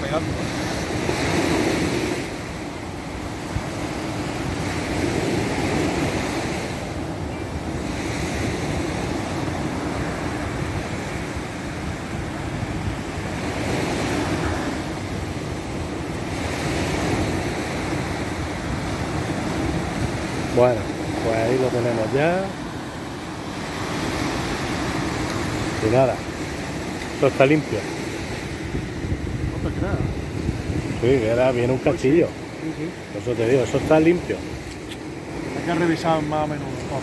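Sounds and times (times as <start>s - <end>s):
surf breaking on beach: 0.0s - 37.0s
wind buffeting microphone: 0.0s - 37.0s.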